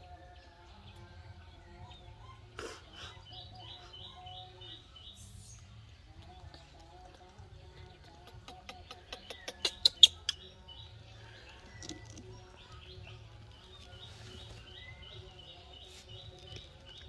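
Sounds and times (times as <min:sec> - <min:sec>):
small bird chirping: 0:01.9 - 0:17.0.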